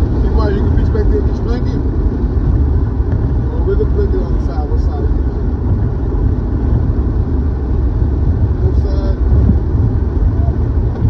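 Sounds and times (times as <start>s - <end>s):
car tyre and engine rumble: 0.0s - 11.0s.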